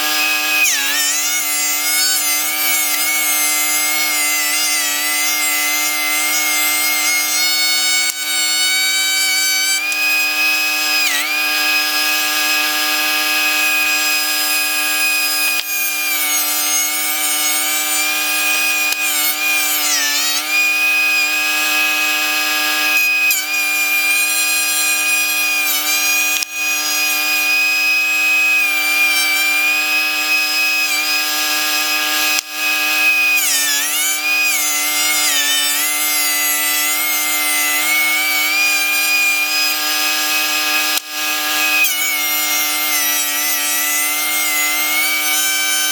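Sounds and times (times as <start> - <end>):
thickness planer whining: 0.0 - 45.9.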